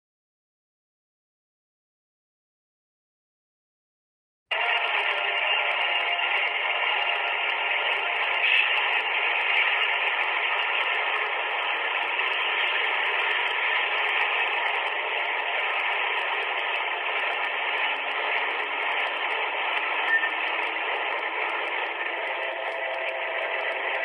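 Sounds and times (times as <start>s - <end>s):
train passing: 4.5s - 24.0s.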